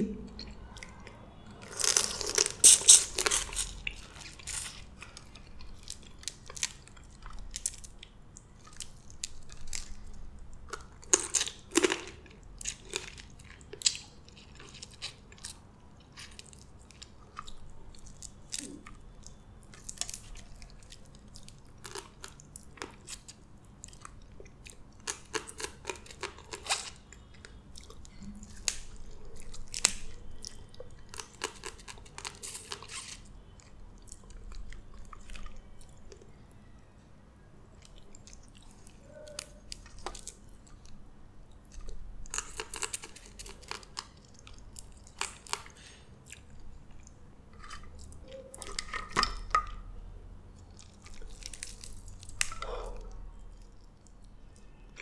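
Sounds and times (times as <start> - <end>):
chewing: 0.2 - 37.0, 37.7 - 55.0.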